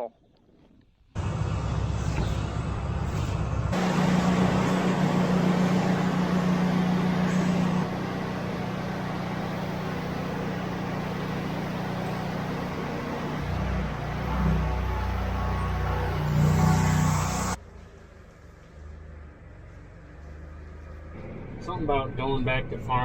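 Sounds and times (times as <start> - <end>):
vehicle engine hum: 1.1 - 23.0.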